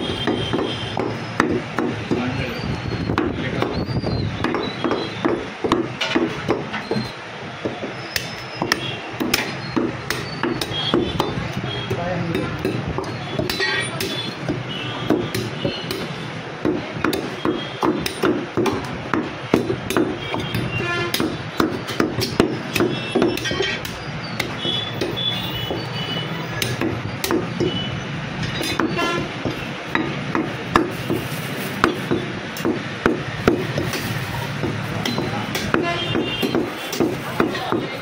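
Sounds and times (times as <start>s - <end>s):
cleaver chopping on wooden block: 0.2s - 2.3s, 4.4s - 25.9s, 26.6s - 27.8s, 28.6s - 38.0s.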